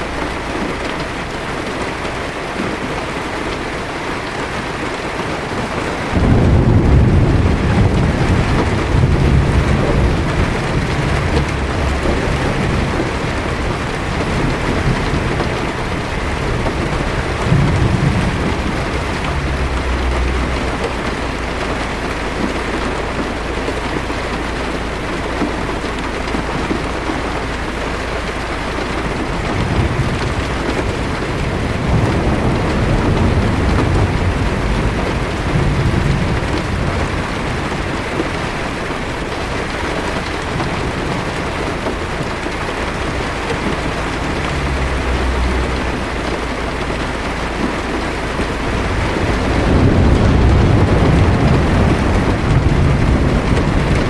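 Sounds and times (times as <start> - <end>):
heavy rain on a car: 0.0 - 54.0
thunder rumbling: 0.0 - 54.0.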